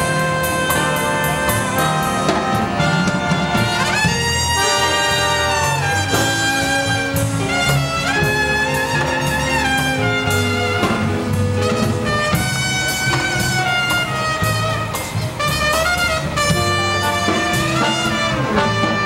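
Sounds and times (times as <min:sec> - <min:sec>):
jazz big band playing bossa nova: 0:00.0 - 0:19.0.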